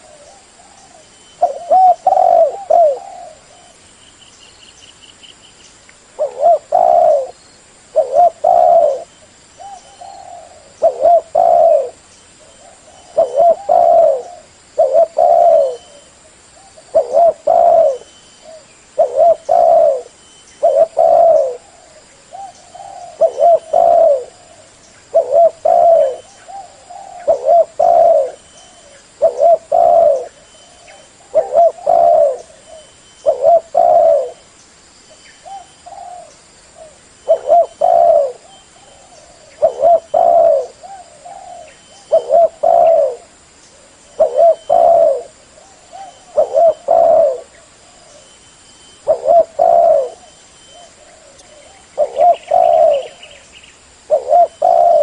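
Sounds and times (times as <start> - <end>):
dove cooing: 0.0 - 3.8, 6.2 - 34.5, 35.4 - 48.4, 49.0 - 55.0.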